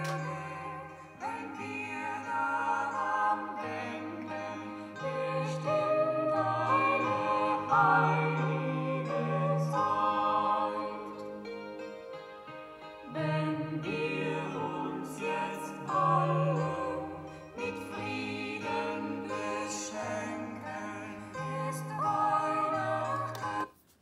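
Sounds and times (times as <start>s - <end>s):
song with vocals through speakers: 0.0s - 23.8s.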